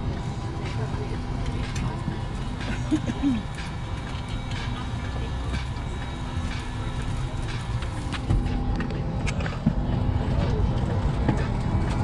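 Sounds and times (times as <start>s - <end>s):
low cabin rumble: 0.0s - 12.0s.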